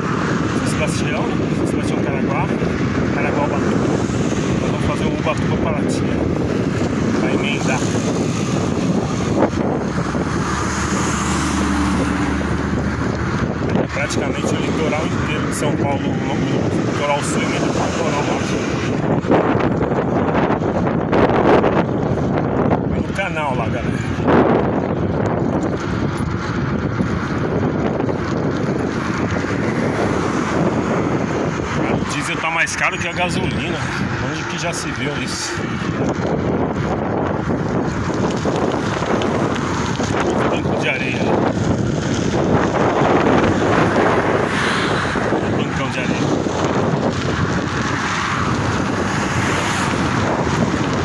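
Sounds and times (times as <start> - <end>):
cars passing on highway: 0.0 - 51.0
vehicle engine hum: 0.0 - 51.0
wind and road noise: 0.0 - 51.0.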